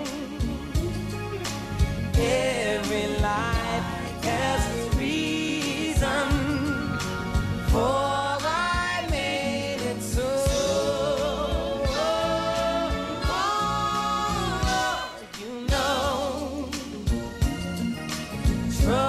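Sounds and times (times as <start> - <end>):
soul band keyboard bass drums: 0.0 - 19.0.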